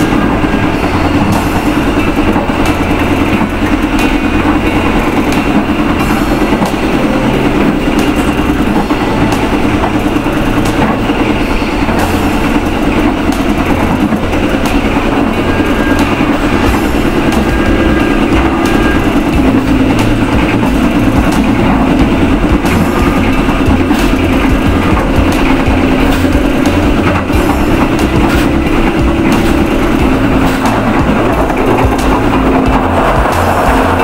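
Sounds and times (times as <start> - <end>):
train carriage rumble: 0.0 - 34.0
train wheel clicks on rail: 0.0 - 34.0.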